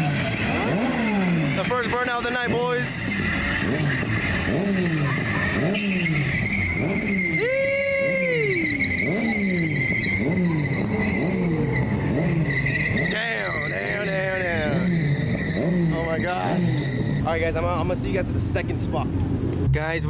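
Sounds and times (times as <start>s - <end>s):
tyres squealing: 0.0s - 18.2s
car engine revving: 0.0s - 20.0s.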